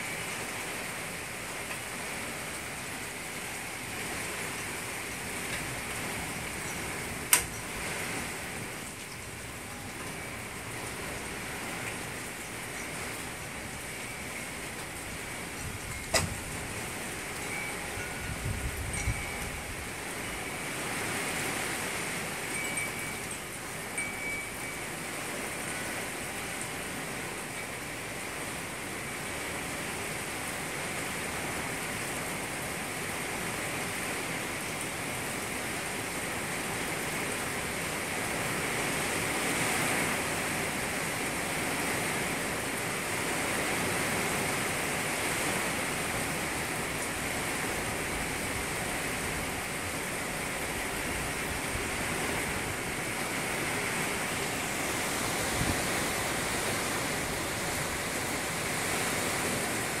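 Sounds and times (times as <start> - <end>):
rain falling on lake and lawn: 0.0 - 60.0.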